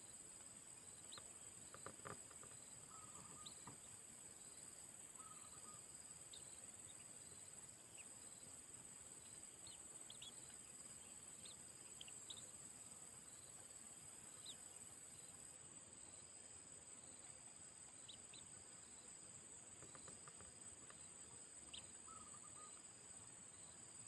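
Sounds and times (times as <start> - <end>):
crickets droning: 0.0 - 24.0
faint bird chirps: 0.8 - 15.4, 17.0 - 23.8.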